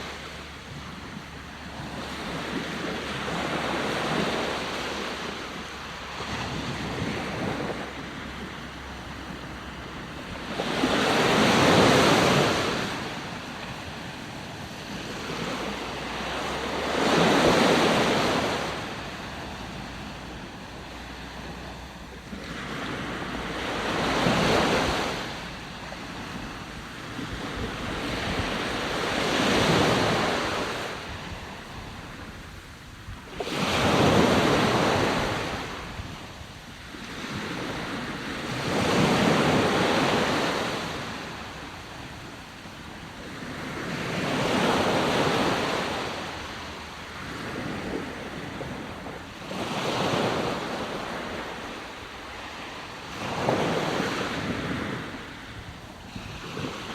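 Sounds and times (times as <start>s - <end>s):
sea waves surging and crashing: 0.0s - 56.9s.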